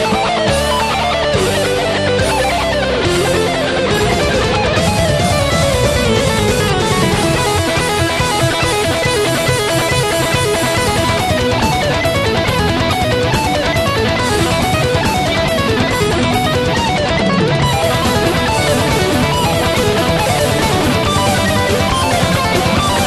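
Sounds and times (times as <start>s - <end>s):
fast electric guitar: 0.0s - 23.0s
steady low rhythm: 1.6s - 23.0s.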